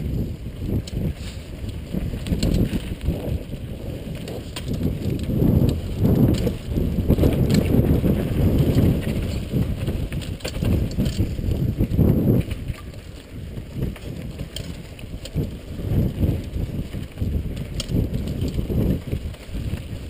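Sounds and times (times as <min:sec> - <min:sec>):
bike rattling over bumps: 0:00.0 - 0:20.0
bike tyres rumbling over dirt: 0:00.0 - 0:20.0.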